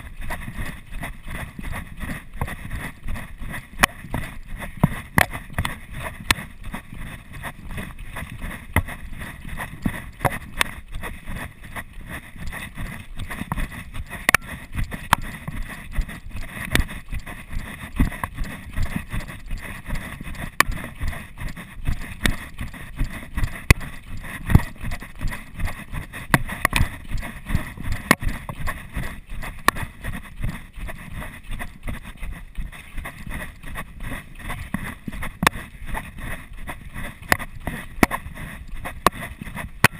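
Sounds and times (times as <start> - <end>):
footsteps on dirt trail: 0.0 - 39.9.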